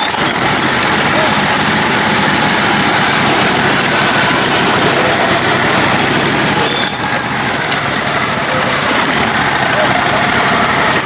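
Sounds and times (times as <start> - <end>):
riding mower engine running: 0.0 - 11.0.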